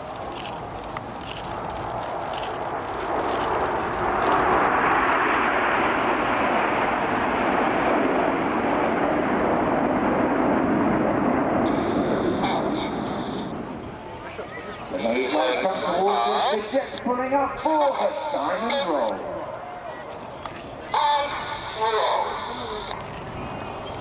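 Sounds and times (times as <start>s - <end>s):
jets flying past: 1.4s - 24.0s.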